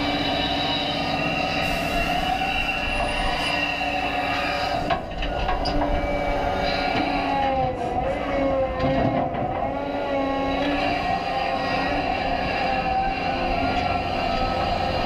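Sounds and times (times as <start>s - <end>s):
excavator engine and hydraulics whining: 0.0s - 15.0s.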